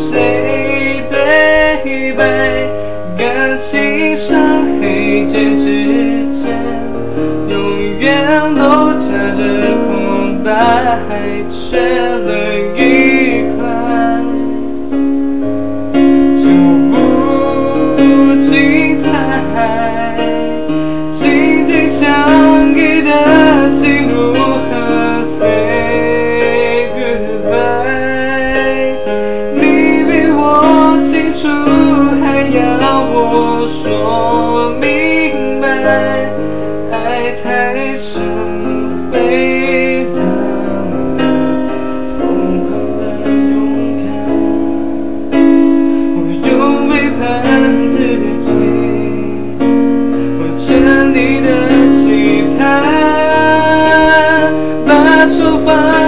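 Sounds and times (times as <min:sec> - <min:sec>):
electronic keyboard piano ballad: 0:00.0 - 0:56.0.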